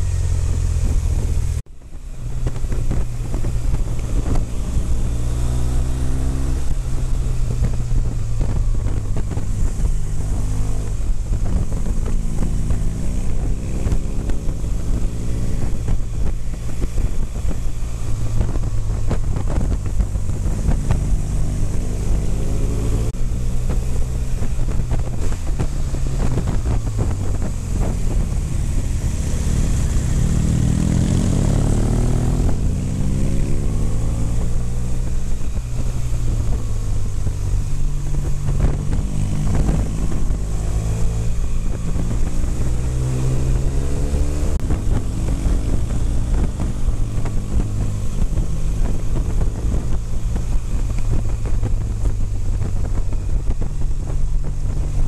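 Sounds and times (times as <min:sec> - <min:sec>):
motorcycle engine accelerating: 0:00.0 - 0:55.0
wind rushing over microphone: 0:00.0 - 0:55.0.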